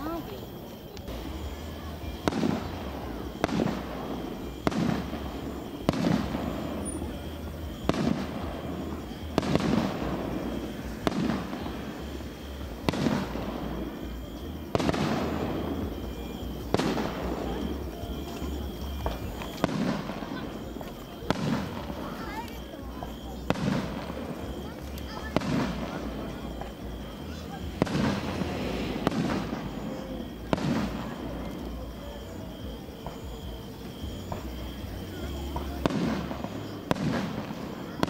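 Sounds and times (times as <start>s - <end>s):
echoing rumble: 0.0s - 38.0s.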